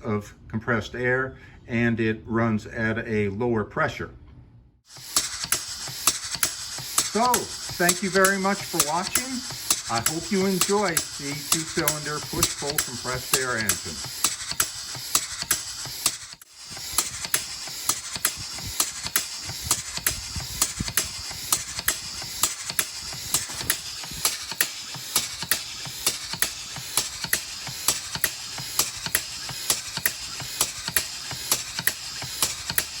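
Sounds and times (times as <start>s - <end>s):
air engine valves clicking: 4.9s - 33.0s
compressed air hissing: 4.9s - 33.0s.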